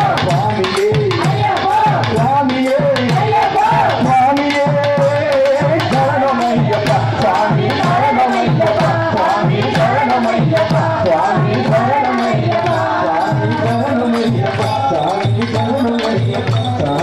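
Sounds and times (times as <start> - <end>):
voices singing devotional song: 0.0 - 17.0.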